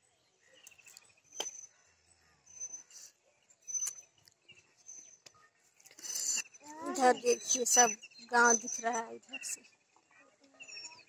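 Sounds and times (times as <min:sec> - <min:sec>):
high bird chirps: 0:00.5 - 0:09.8, 0:10.6 - 0:11.0.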